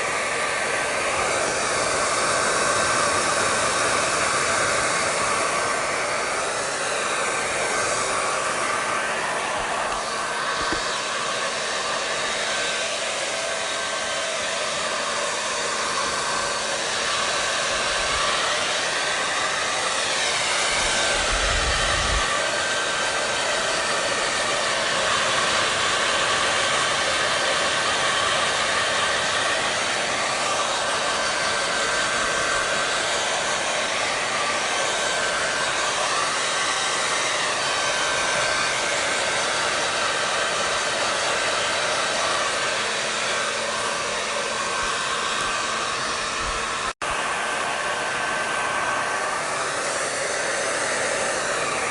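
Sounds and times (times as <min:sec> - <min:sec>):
hair dryer blowing: 0:00.0 - 0:51.9.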